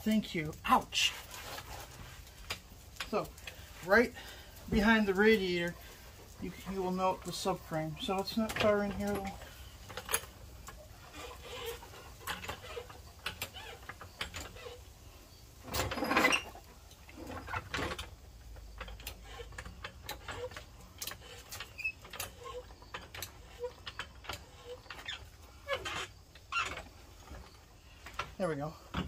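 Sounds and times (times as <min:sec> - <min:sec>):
scraping rustle: 0:00.0 - 0:29.0.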